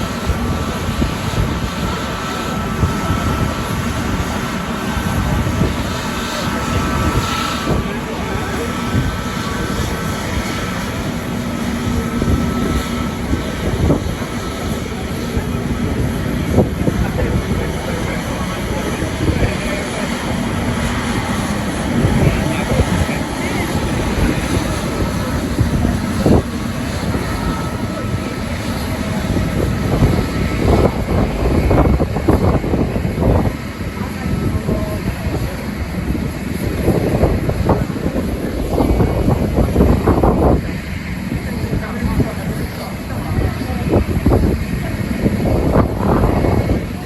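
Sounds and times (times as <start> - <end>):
jet engines whining: 0.0 - 47.0
wind buffeting microphone: 0.0 - 47.0.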